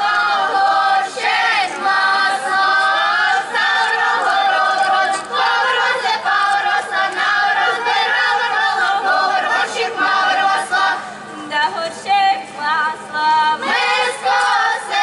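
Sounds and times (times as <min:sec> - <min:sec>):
choir singing: 0:00.0 - 0:11.1, 0:13.3 - 0:15.0.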